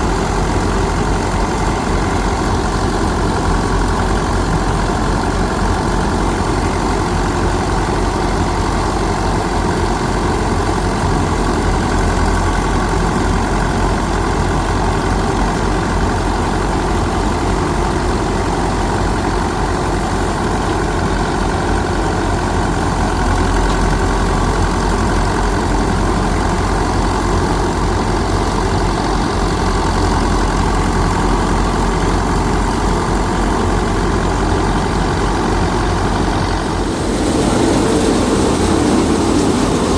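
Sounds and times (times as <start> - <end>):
machine engine running steadily: 0.0 - 39.9.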